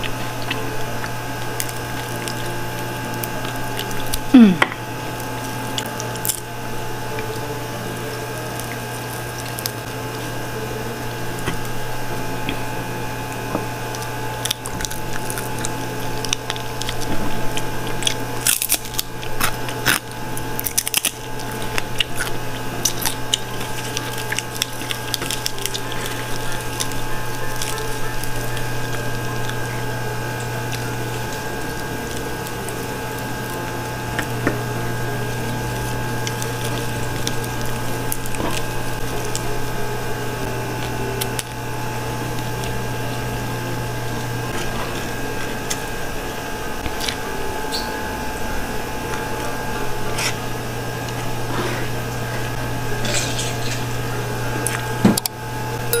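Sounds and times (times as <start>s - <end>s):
chewing crunchy lettuce: 0.0s - 55.3s
low machine hum: 0.0s - 56.0s.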